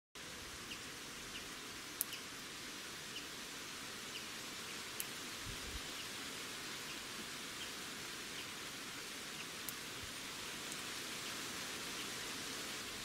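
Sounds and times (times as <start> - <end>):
outdoor hiss: 0.2 - 13.0.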